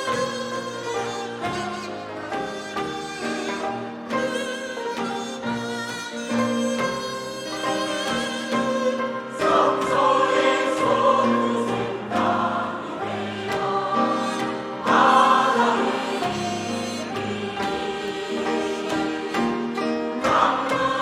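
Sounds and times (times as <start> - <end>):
choir singing a hymn in parts: 0.0 - 5.6, 6.2 - 21.0
sustained accompaniment: 0.0 - 21.0.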